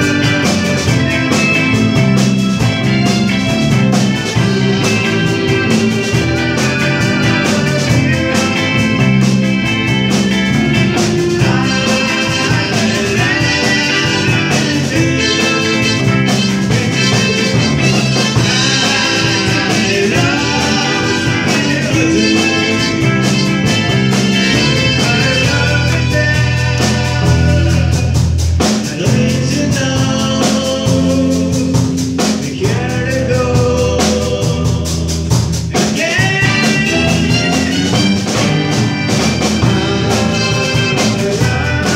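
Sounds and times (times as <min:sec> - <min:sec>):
person singing: 0:00.0 - 0:38.5, 0:39.2 - 0:41.9
live rock band playing: 0:00.0 - 0:41.9.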